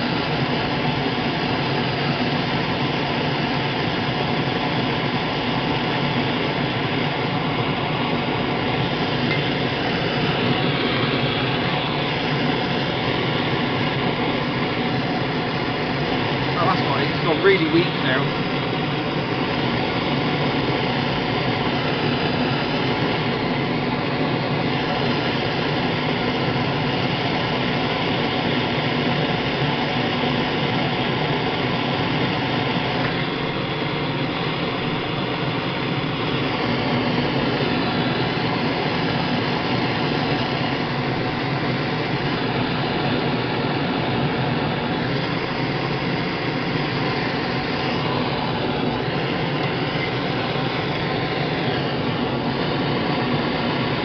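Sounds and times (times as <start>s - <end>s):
faint hum: 0.0s - 54.0s
torch flame hissing: 0.0s - 54.0s.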